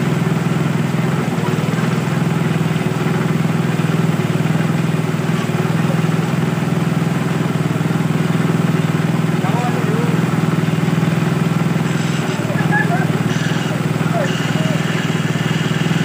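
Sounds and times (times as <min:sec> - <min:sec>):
water pump engine running: 0:00.0 - 0:16.0.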